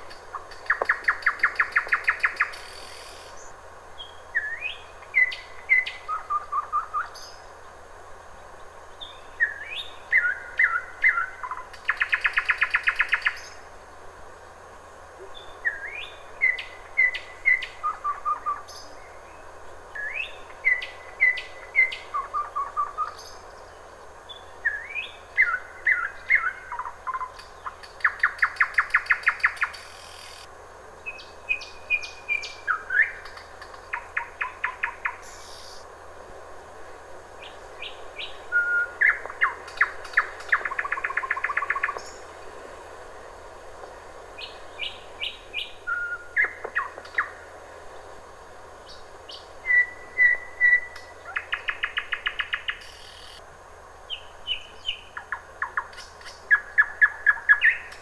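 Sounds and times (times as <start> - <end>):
nightingale singing: 0.0 - 7.4, 8.9 - 13.6, 15.3 - 35.8, 37.4 - 42.3, 44.4 - 47.4, 48.8 - 53.4, 54.1 - 58.0.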